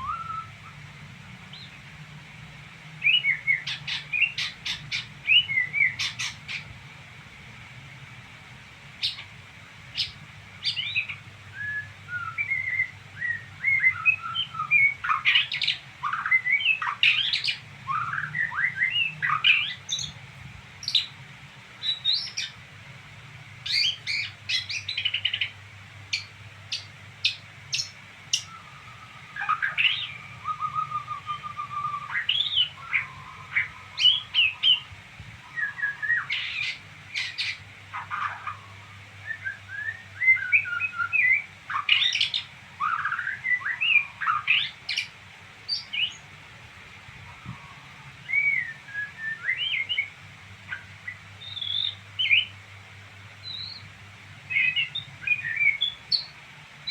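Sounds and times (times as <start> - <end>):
songbird twittering: 0.0 - 0.8, 3.0 - 6.7, 9.0 - 9.3, 9.9 - 20.2, 20.8 - 21.2, 21.8 - 22.6, 23.6 - 46.3, 47.2 - 52.6, 53.4 - 53.9, 54.5 - 56.9.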